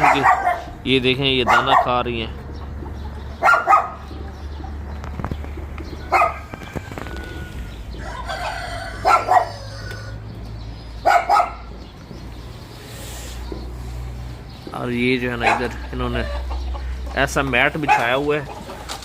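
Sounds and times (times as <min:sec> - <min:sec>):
chickens squawking and clucking: 0:00.0 - 0:19.0.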